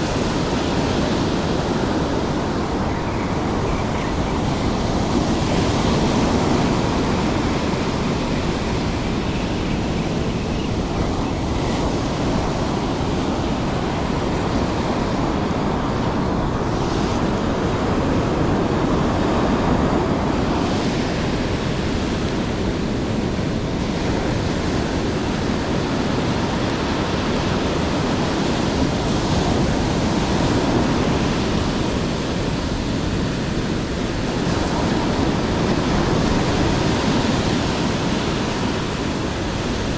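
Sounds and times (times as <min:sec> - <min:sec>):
surf washing: 0:00.0 - 0:39.9
wind on microphone: 0:00.0 - 0:39.9.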